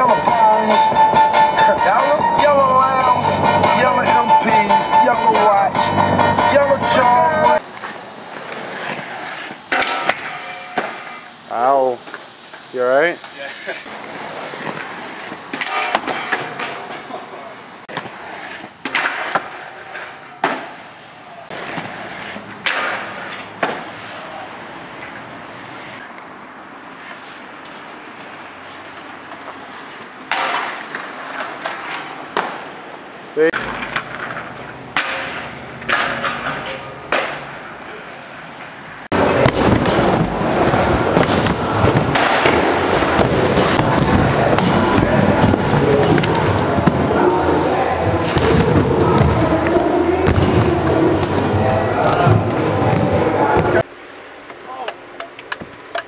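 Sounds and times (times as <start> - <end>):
skateboard grinding rail: 0.0 - 11.4, 13.6 - 26.1, 26.9 - 54.4
skateboard wheels rolling on concrete: 0.0 - 56.0.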